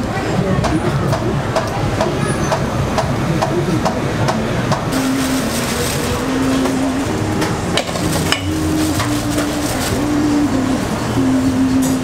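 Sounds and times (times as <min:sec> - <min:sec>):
busy street din: 0:00.0 - 0:12.0.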